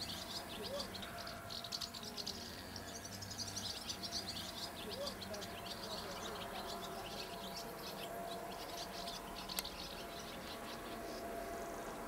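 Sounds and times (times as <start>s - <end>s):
small birds twittering: 0.0s - 12.0s.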